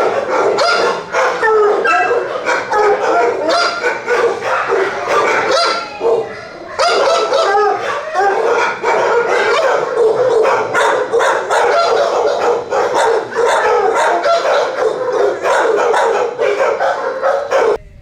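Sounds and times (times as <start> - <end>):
dogs barking and yipping: 0.0 - 17.8.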